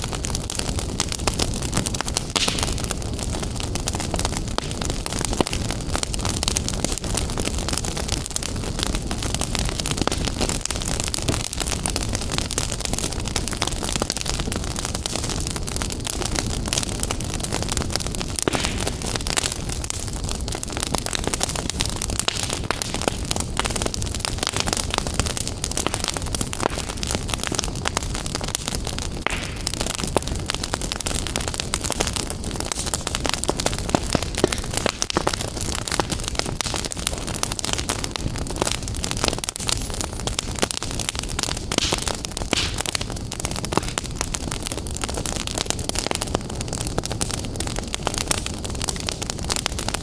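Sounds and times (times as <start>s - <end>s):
fire crackling in a fireplace: 0.0s - 50.0s.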